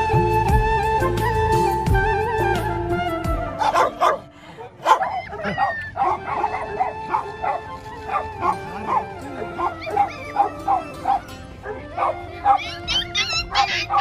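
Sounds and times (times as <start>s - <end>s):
music playing: 0.0s - 4.5s, 6.0s - 14.0s.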